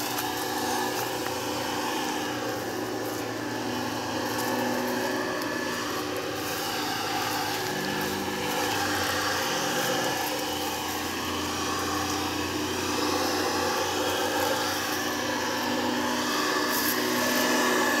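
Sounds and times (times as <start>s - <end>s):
spray nozzle hissing: 0.0s - 18.0s
sprayer motor hum: 0.0s - 18.0s.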